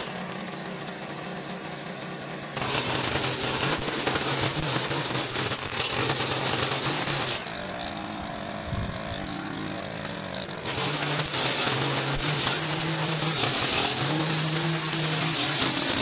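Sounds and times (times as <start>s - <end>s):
small gas engine running: 0.0s - 16.0s.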